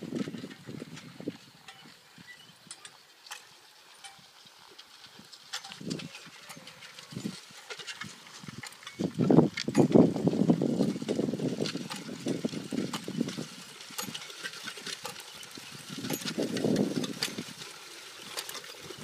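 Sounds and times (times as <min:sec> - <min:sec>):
disc harrow rumbling clatter: 0:00.0 - 0:19.0.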